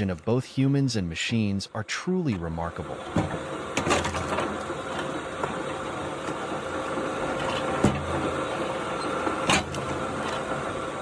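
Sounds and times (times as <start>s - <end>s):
wood-splitting machine droning: 2.2s - 11.0s.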